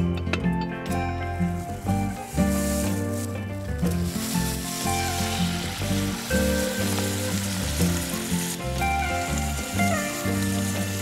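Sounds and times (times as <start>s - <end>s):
background music with bass: 0.0s - 11.0s
meat sizzling in a pot: 1.3s - 11.0s.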